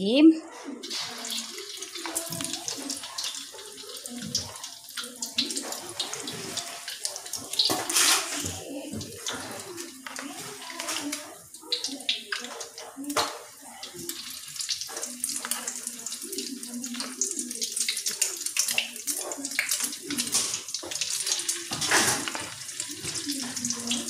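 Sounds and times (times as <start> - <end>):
fritters deep-frying in oil: 0.8 - 24.0.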